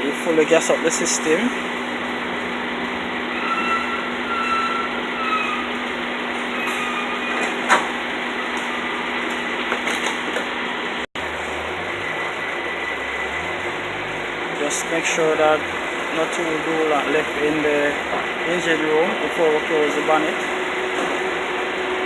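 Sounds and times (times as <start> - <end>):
air conditioning running: 0.0 - 22.0
car engine idling: 0.0 - 22.0.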